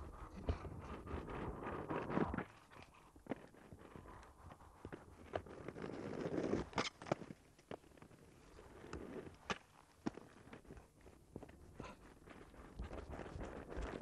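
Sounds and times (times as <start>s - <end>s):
skate wheels rolling on bricks: 1.8s - 14.0s.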